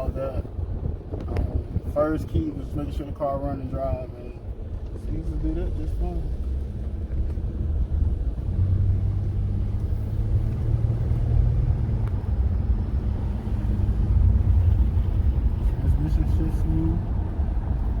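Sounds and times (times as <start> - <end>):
car engine rumble: 0.0 - 18.0
road noise: 0.0 - 18.0.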